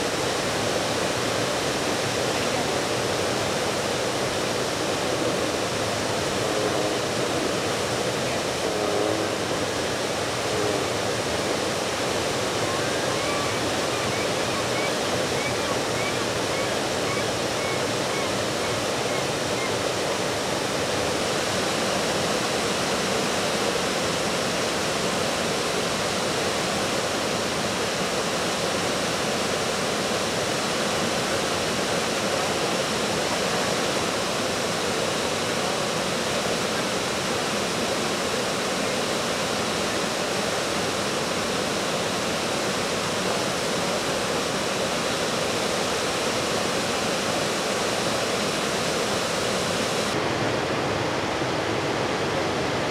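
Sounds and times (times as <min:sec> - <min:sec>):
whitewater rapids rushing: 0:00.0 - 0:52.9.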